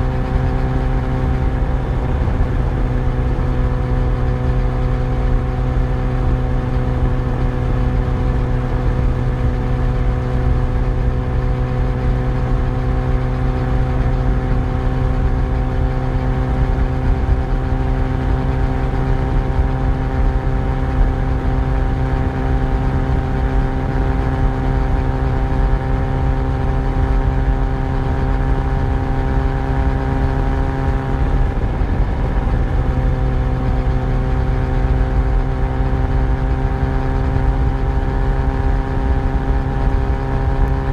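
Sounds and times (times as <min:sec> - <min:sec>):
low rumble: 0:00.0 - 0:40.9
motorcycle engine running: 0:00.0 - 0:40.9.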